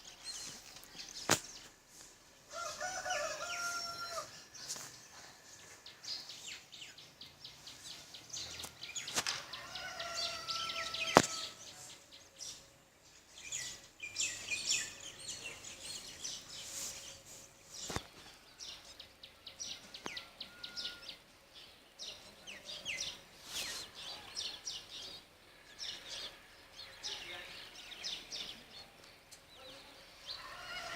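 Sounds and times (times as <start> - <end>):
songbirds chirping: 0.0 - 30.9.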